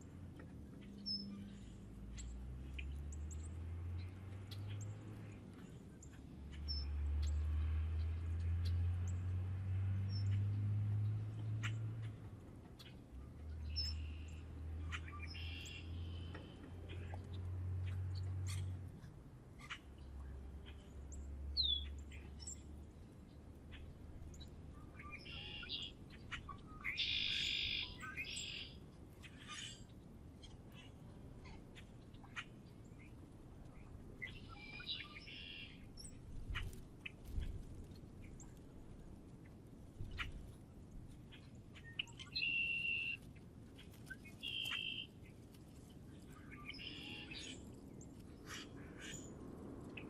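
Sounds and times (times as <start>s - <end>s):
songbirds chirping: 0.0s - 50.0s.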